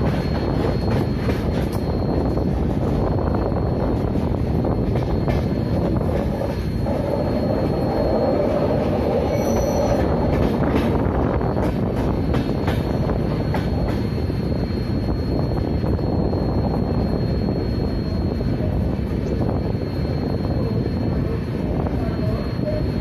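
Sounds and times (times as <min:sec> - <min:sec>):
train wheels rumbling on rails: 0:00.0 - 0:23.0
train whine: 0:00.0 - 0:23.0.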